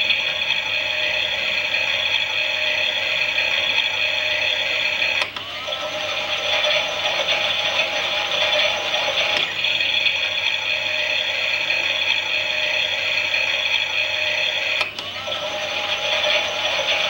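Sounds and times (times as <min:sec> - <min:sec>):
toy washing machine motor whirring: 0:00.0 - 0:17.0.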